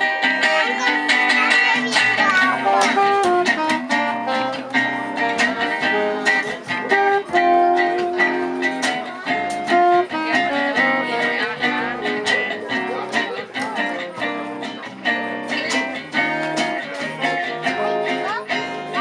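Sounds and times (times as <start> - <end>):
plucked guitar melody: 0.0 - 19.0
strummed guitar chords: 0.0 - 19.0.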